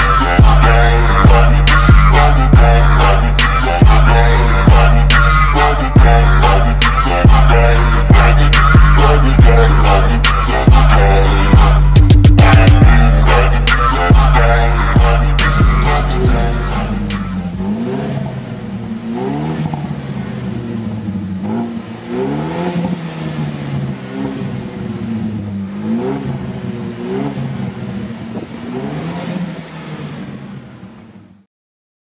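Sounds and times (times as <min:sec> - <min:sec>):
car engine revving: 0:00.0 - 0:31.5.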